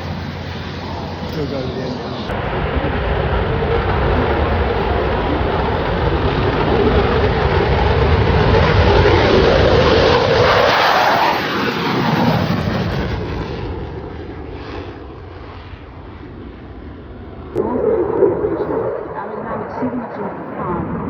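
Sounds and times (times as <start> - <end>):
aircraft engine roar: 0.0 - 21.0.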